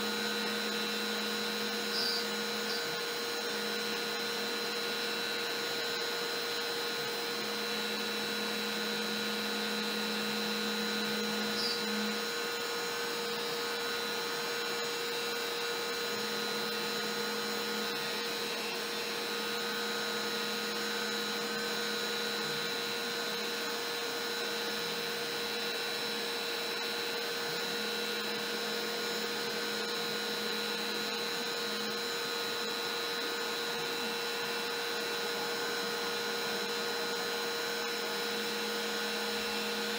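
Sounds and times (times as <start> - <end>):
dust-collection vacuum running: 0.0 - 39.9
low machine hum: 0.0 - 39.9
router whining while cutting: 0.0 - 39.9.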